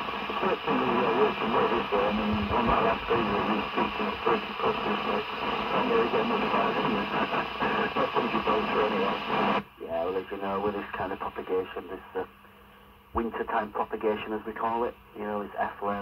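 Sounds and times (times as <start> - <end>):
voice over radio speaker: 0.0 - 12.3, 13.2 - 16.0
radio hiss: 0.0 - 16.0.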